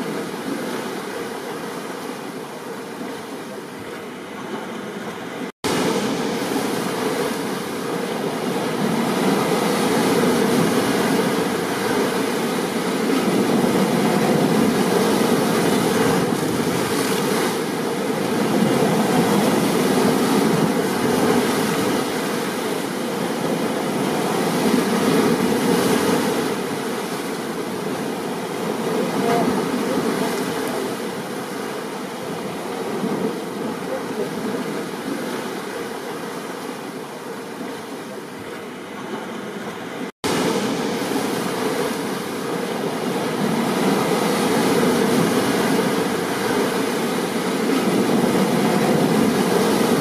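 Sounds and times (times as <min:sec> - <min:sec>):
ocean surf: 0:00.0 - 0:50.0.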